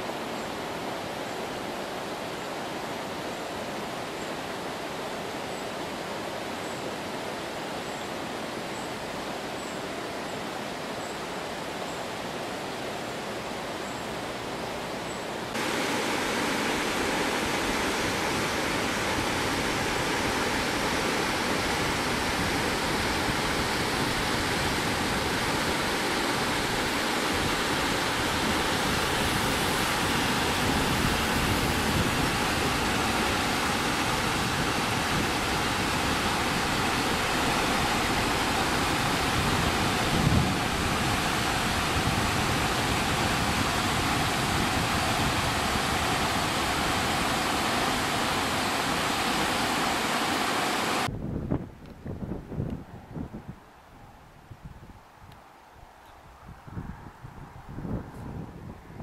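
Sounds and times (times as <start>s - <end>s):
water rushing over rocks: 0.0s - 51.1s.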